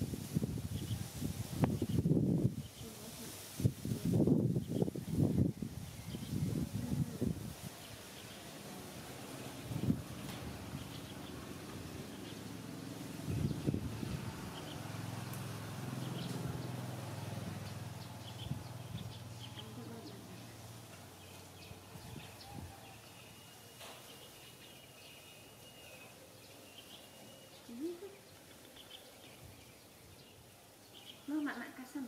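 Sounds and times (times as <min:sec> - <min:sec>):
birds chirping: 0:04.4 - 0:32.0.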